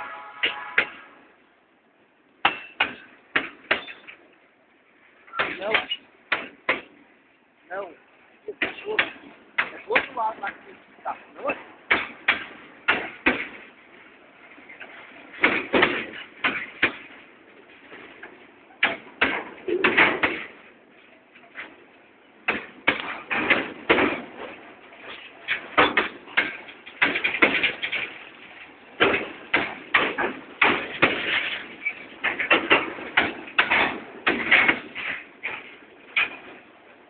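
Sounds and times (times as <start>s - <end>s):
train metallic clanks and knocks: 0.0s - 1.2s, 2.4s - 4.3s, 5.3s - 7.0s, 8.5s - 37.0s.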